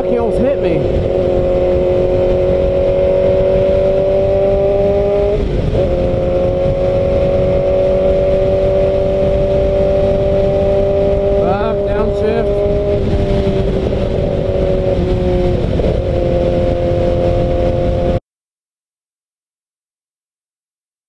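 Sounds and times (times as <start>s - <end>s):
motorcycle engine accelerating: 0.0s - 18.2s
wind rush on microphone: 0.0s - 18.2s.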